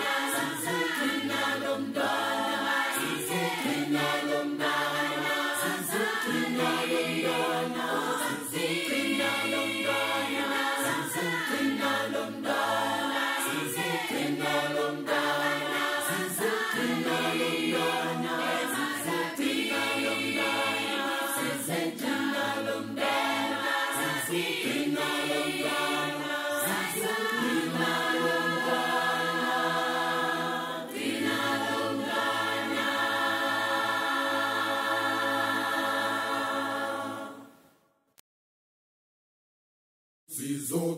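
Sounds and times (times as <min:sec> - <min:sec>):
choir singing: 0:00.0 - 0:37.7.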